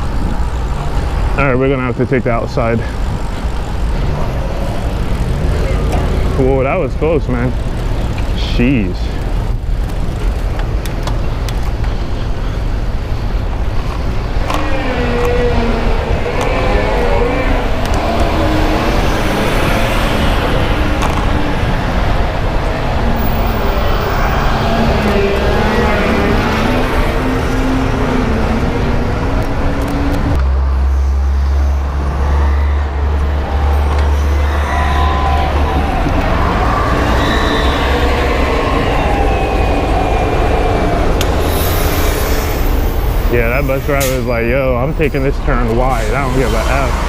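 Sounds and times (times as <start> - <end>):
motor vehicle engine drone: 0.0 - 47.0
road rumble: 0.0 - 47.0.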